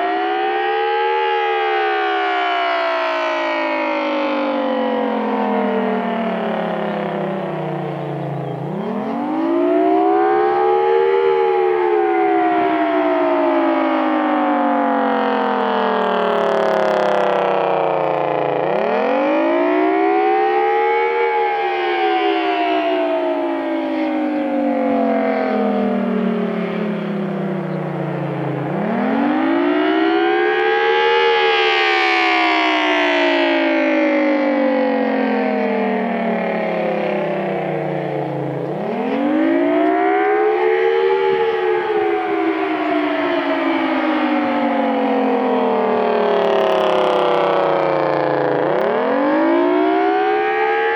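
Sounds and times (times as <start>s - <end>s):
wavering siren wail: 0.0s - 50.9s.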